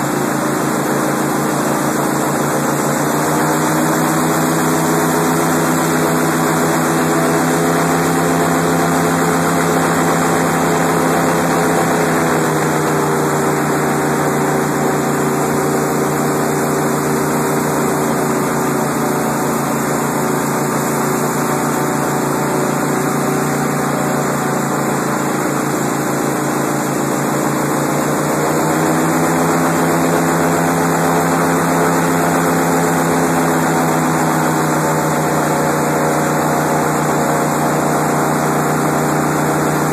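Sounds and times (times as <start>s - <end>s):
airboat engine and propeller: 0.0s - 39.9s.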